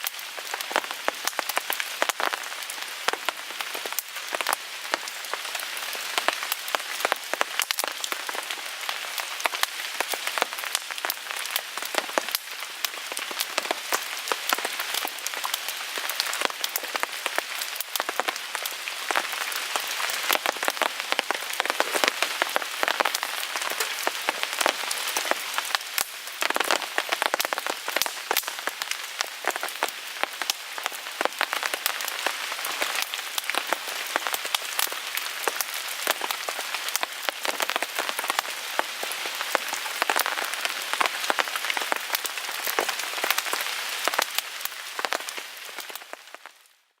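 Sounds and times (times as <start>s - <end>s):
small wood fire burning: 0.0s - 46.9s
rain falling on a tarp: 0.0s - 47.0s.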